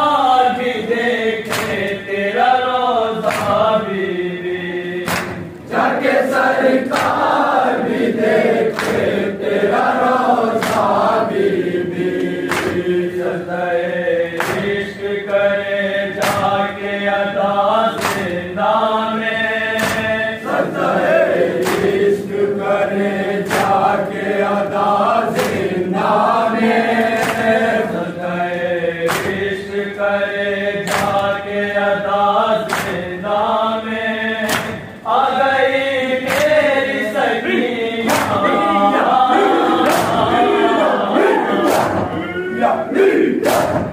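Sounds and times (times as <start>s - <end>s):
men chanting in unison: 0.0s - 43.9s.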